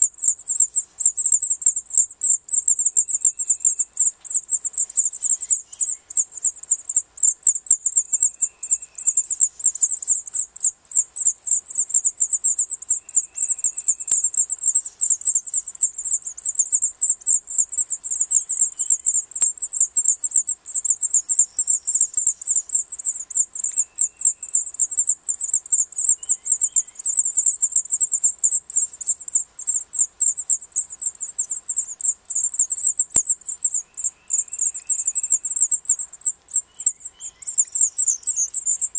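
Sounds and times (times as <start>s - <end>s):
faint lower bird chirps: 0.0s - 38.9s
high-pitched nestling cheeps: 0.0s - 38.9s.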